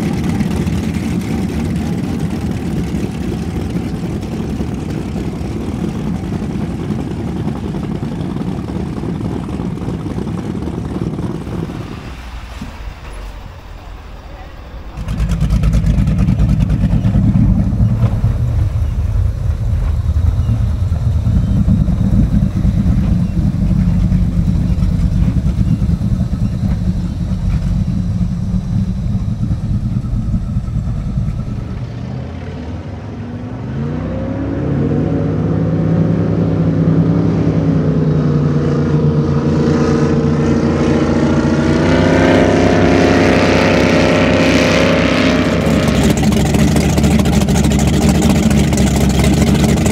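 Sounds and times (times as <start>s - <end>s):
boat engine throttling up: 0.0s - 49.9s
powerboat engines rumbling: 0.0s - 49.9s.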